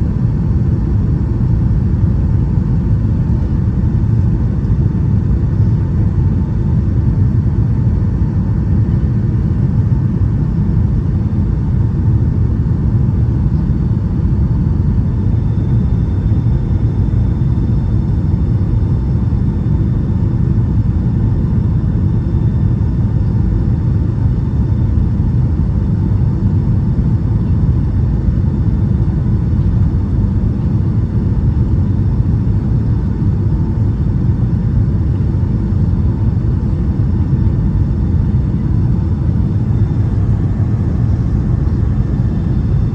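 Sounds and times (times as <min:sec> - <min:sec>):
airliner cabin engine rumble: 0:00.0 - 0:42.9.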